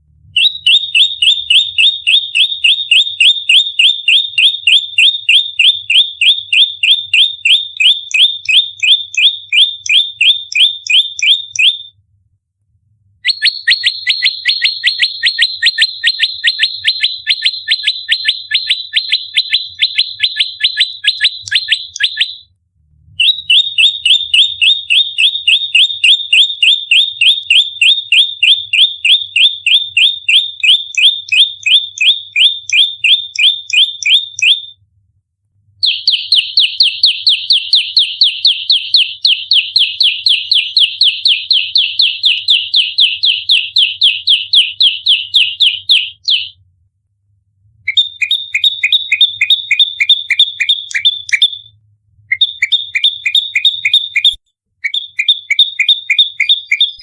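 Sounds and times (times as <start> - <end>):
bird rapid chirping call: 0.4 - 11.9, 13.2 - 22.4, 23.2 - 34.7, 35.8 - 46.5, 47.9 - 51.7, 52.3 - 57.0.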